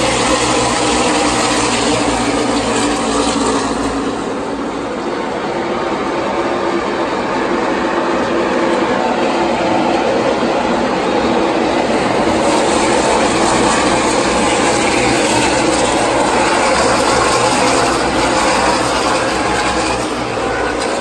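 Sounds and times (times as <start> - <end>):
race car engines: 0.0 - 21.0.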